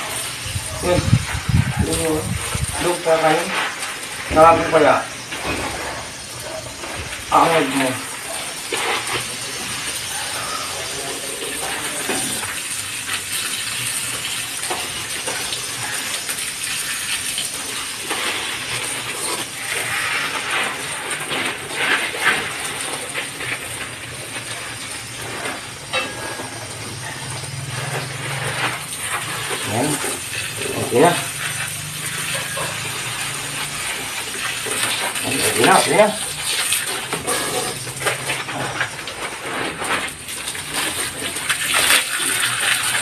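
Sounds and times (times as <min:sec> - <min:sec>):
hose spraying water: 0:00.0 - 0:43.0.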